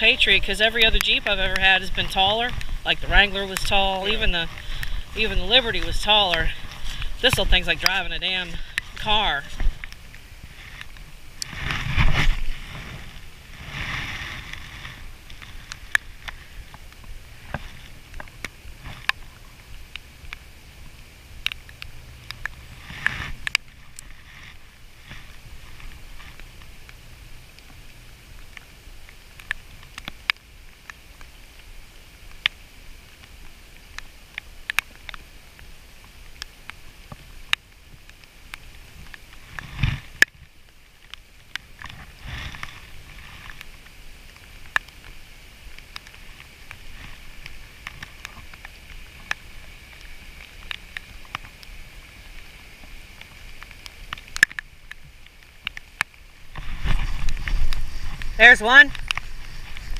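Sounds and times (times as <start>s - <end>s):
rain falling on a river: 0.0s - 59.9s
raindrops tapping close by: 0.0s - 59.9s.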